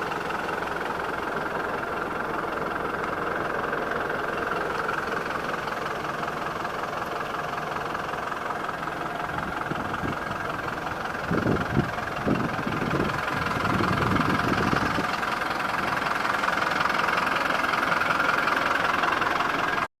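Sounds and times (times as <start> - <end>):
truck engine idling: 0.0 - 19.9.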